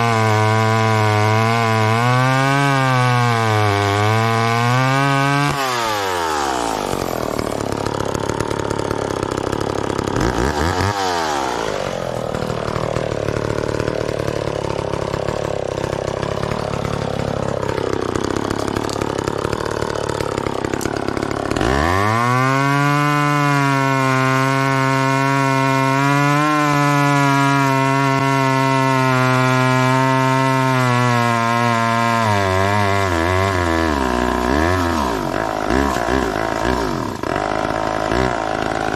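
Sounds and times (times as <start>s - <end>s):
chainsaw running: 0.0s - 38.9s.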